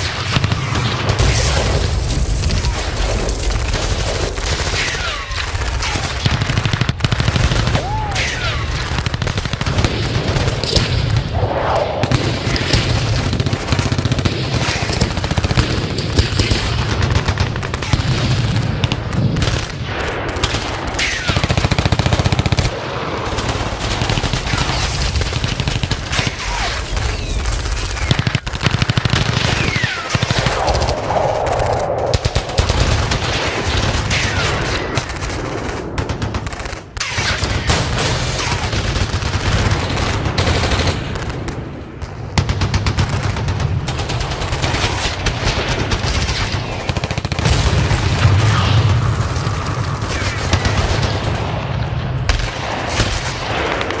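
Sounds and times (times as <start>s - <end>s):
rifle shots: 0.0s - 31.1s, 32.1s - 54.0s.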